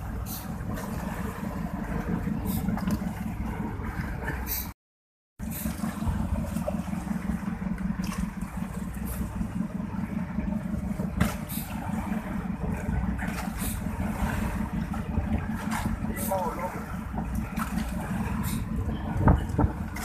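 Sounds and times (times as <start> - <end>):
boat engine pulsing drone: 0.0 - 4.8, 5.4 - 20.0.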